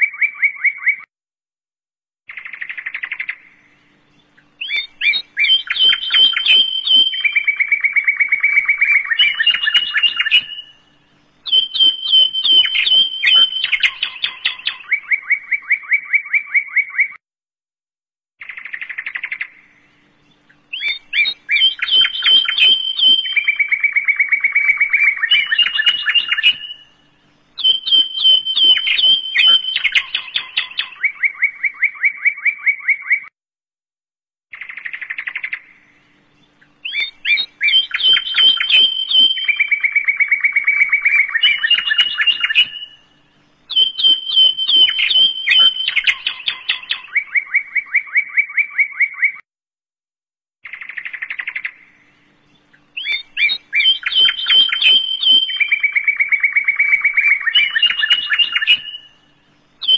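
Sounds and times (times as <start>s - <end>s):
birdsong chirps and trills: 0.0s - 1.1s, 2.3s - 17.2s, 18.4s - 33.3s, 34.5s - 49.4s, 50.6s - 59.9s.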